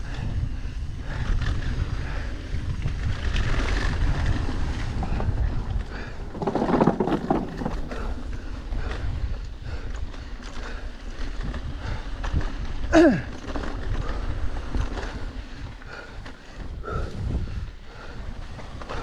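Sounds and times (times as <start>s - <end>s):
bike clicks and rattles: 0.0s - 19.0s
bike tyres on loose dirt: 0.0s - 19.0s
wind rumbling on microphone: 0.0s - 19.0s.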